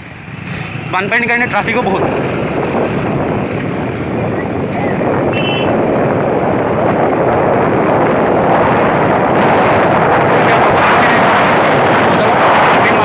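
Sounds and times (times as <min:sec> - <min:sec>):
road traffic rushing: 0:00.0 - 0:13.0
wind noise on microphone: 0:00.0 - 0:13.0.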